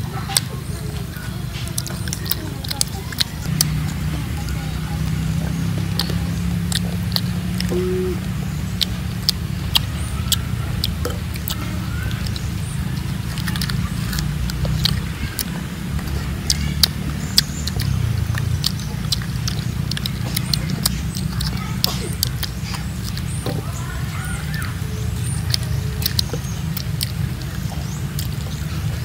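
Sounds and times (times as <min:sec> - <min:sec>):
crunchy fruit chewing: 0:00.0 - 0:29.0.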